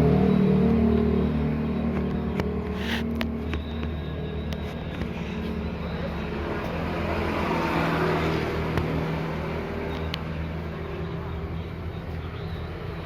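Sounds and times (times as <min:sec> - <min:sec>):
road noise: 0:00.0 - 0:13.0
vehicle engine running: 0:00.0 - 0:13.0.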